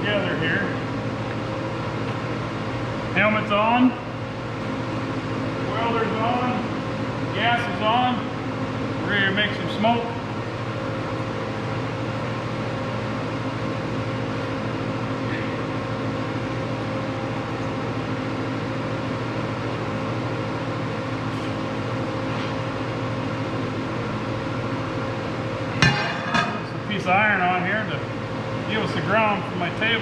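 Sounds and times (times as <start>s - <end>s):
shop machinery humming: 0.0s - 30.0s.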